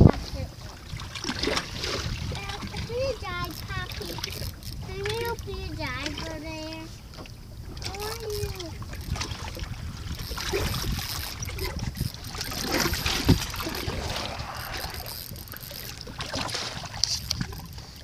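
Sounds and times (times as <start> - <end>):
choppy water: 0.0 - 18.0
wind buffeting microphone: 0.0 - 18.0.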